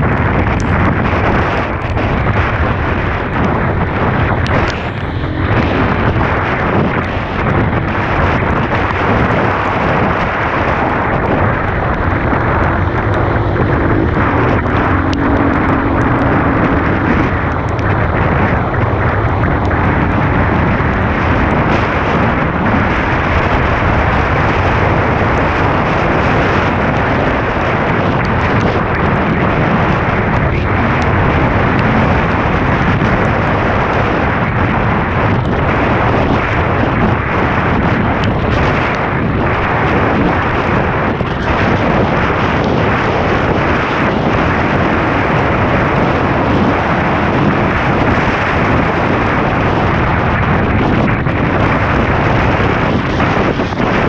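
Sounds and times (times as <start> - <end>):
dirt bike engine running: 0.0 - 54.0
wind buffeting microphone: 0.0 - 54.0.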